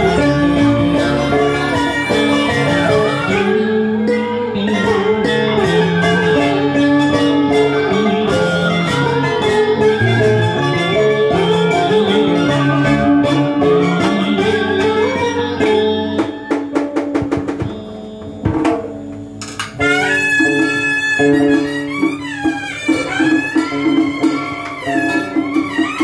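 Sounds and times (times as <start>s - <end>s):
traditional instrumental ensemble: 0.0s - 26.0s.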